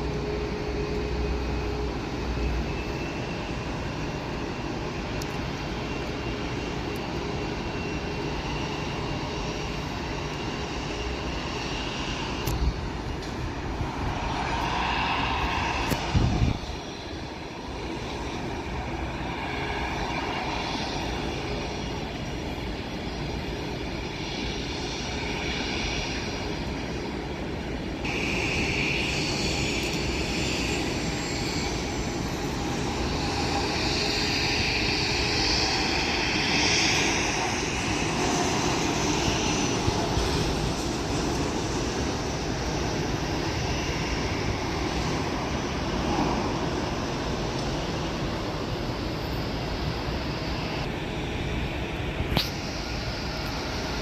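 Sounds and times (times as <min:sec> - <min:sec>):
jet airliner engines whining: 0:00.0 - 0:54.0.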